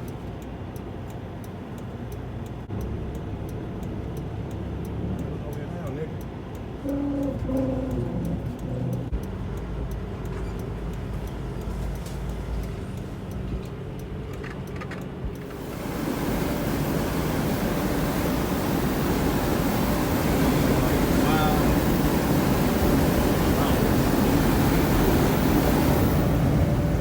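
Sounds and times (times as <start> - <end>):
diesel truck engine running: 0.0 - 27.0
road and wind noise rushing: 0.0 - 27.0.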